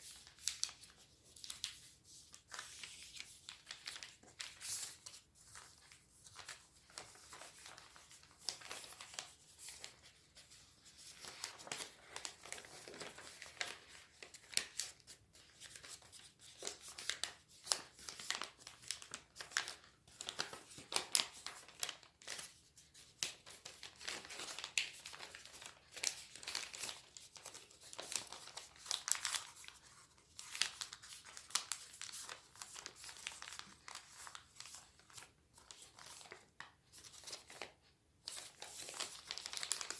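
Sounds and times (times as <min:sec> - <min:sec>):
paper being folded and creased: 0:00.0 - 0:39.9.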